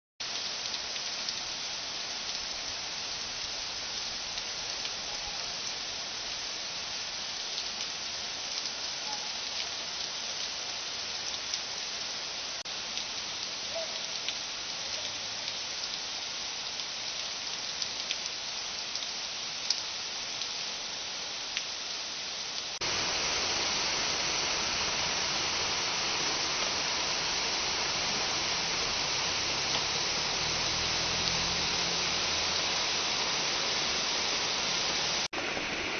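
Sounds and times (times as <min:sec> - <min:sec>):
heavy rain pouring: 0:00.2 - 0:35.9.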